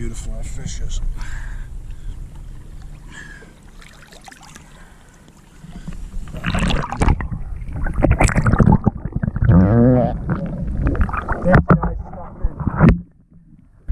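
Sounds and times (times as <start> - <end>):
water sloshing and splashing: 1.9 - 13.9.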